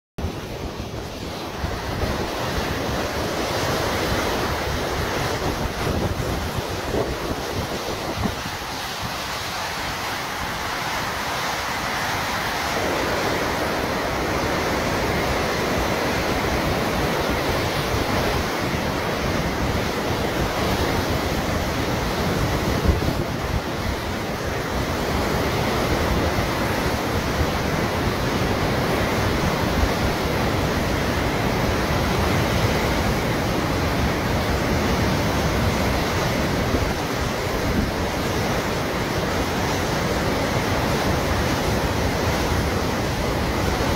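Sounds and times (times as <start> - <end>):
fast-flowing river water rushing: 0.2 - 43.9
wind buffeting microphone: 0.2 - 43.9.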